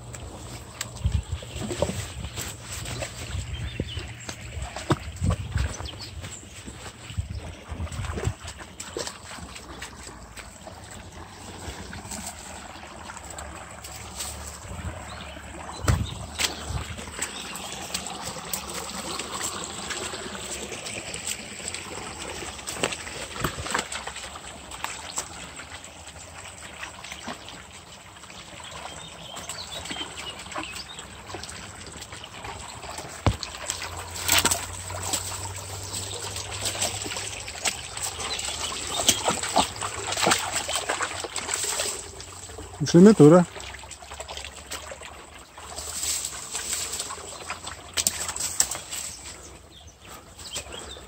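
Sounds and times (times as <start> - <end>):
brook trickling over stones: 0.0 - 51.0
water splashes: 0.0 - 51.0.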